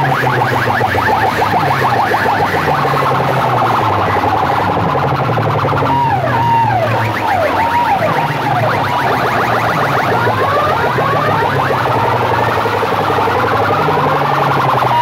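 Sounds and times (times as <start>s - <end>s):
electronic siren chirps: 0.0s - 15.0s
siren wails: 0.0s - 15.0s.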